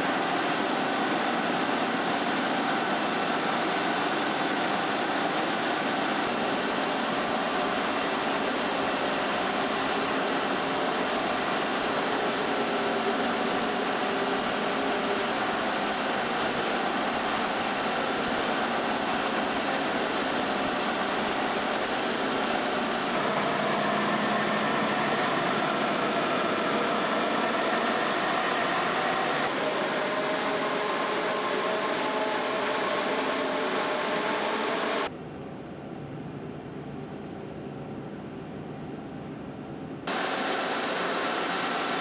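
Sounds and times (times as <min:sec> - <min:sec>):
factory machinery noise: 0:00.0 - 0:35.1, 0:40.1 - 0:42.0.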